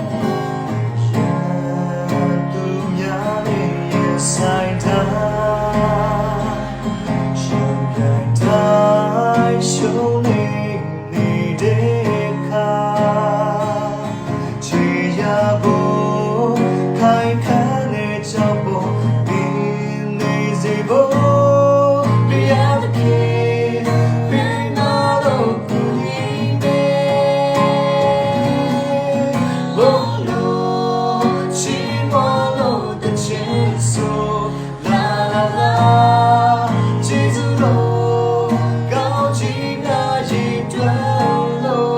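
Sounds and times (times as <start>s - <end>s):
acoustic guitar: 0.0s - 41.9s
person singing: 0.0s - 41.9s.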